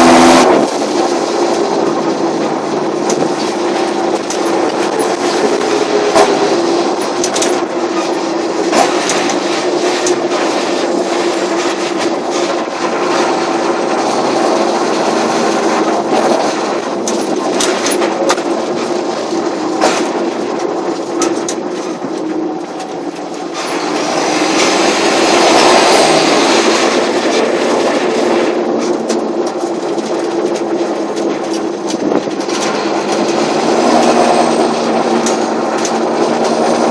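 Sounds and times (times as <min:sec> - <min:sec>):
diesel tractor engine running: 0:00.0 - 0:36.9
clanks and rattles: 0:00.6 - 0:36.9.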